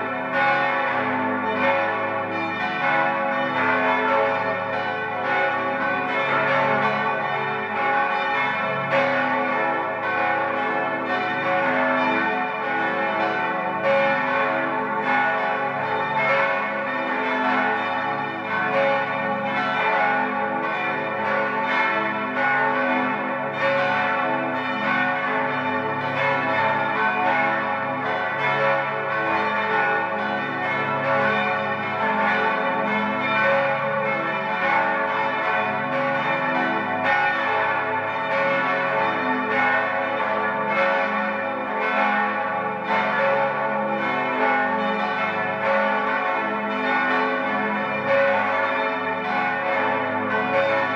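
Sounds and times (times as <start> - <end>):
church bells pealing: 0.0 - 50.9.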